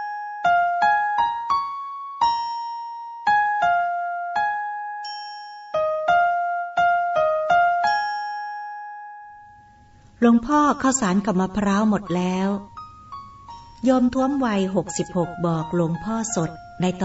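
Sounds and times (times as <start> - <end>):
slow piano-like keyboard melody: 0.0 - 17.0.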